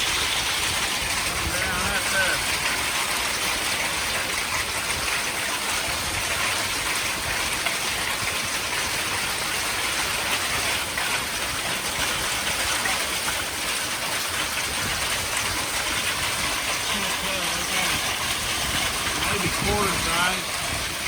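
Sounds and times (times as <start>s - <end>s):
hail and heavy rain: 0.0s - 21.0s.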